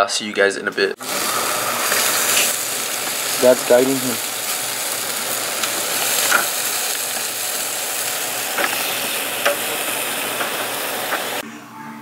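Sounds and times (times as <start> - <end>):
meat sizzling on a grill: 1.0 - 11.4.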